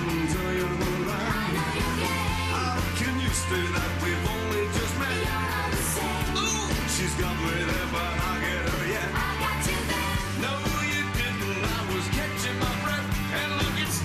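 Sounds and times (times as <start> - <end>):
person singing: 0.0 - 14.0
rock and roll band playing: 0.0 - 14.0
steady drum beat: 0.0 - 14.0.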